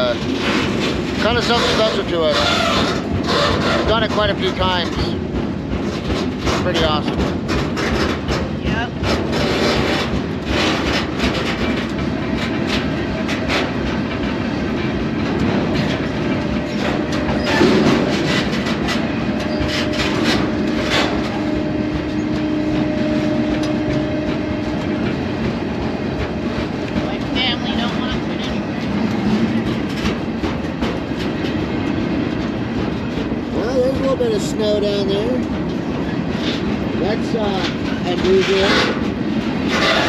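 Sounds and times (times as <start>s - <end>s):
train cars rumbling and rattling: 0.0s - 40.0s
wheels clacking over rails: 0.0s - 40.0s.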